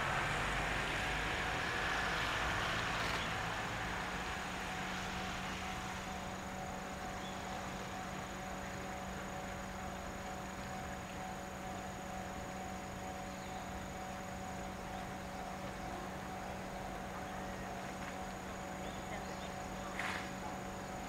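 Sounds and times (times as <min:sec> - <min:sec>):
steady tonal hum: 0:00.0 - 0:21.0
insects calling: 0:00.4 - 0:21.0.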